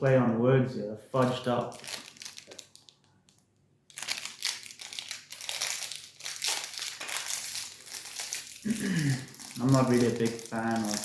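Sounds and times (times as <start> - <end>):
plastic wrapper crinkling: 1.2 - 11.0.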